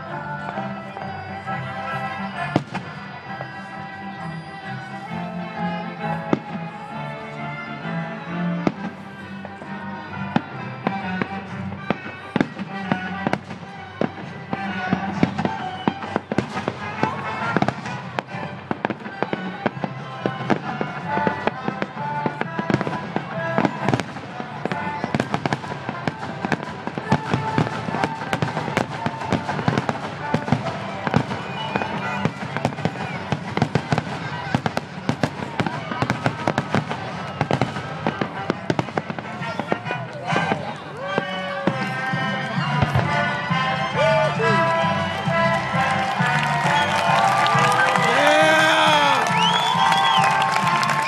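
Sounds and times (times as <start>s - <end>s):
orchestral music: 0.0s - 51.0s
fireworks bursting: 8.6s - 42.0s, 42.8s - 51.0s.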